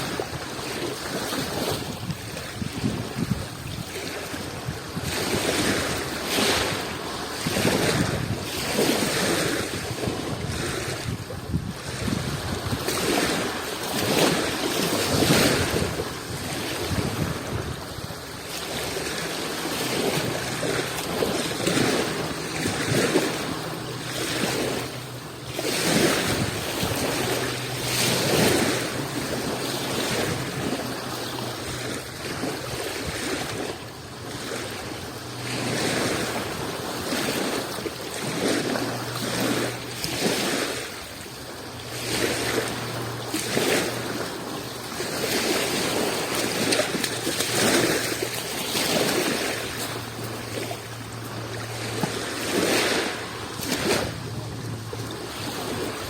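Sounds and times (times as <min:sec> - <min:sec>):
small sea waves washing in: 0:00.0 - 0:56.0.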